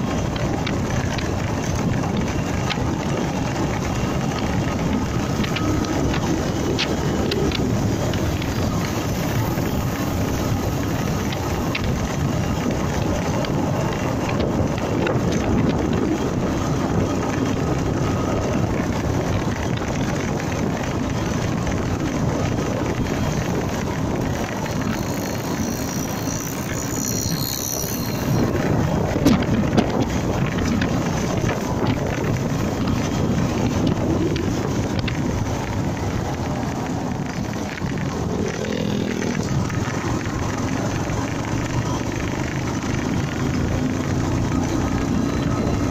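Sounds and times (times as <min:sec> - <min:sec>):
motorcycle road noise: 0:00.0 - 0:45.9
wind on microphone: 0:00.0 - 0:45.9.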